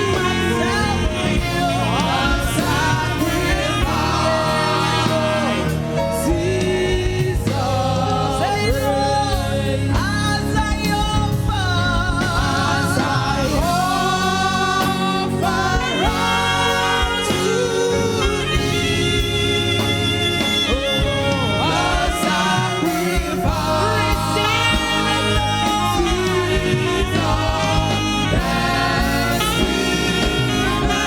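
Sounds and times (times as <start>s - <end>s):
band accompaniment: 0.0s - 31.0s
gospel singing: 0.0s - 31.0s.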